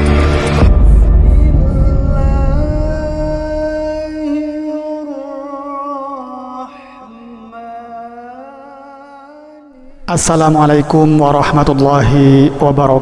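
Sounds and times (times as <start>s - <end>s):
wordless vocal music: 0.0s - 13.0s.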